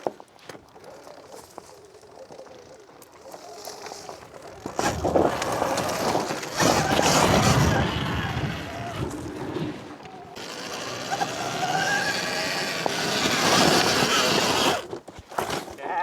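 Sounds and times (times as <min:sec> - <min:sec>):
tyres on loose ground: 0:00.0 - 0:16.0
electric dirt bike riding past: 0:00.7 - 0:14.8.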